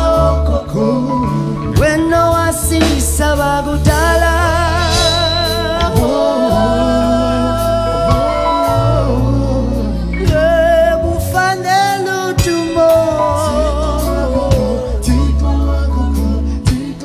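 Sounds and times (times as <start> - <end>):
deep bass notes: 0.0 - 17.0
electric guitar: 0.0 - 17.0
keyboard: 0.0 - 17.0
man singing: 0.0 - 17.0.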